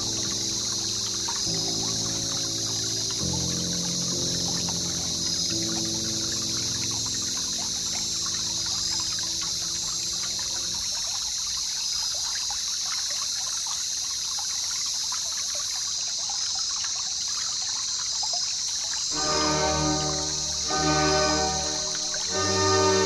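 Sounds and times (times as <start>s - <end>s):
constant high hiss: 0.0s - 23.0s.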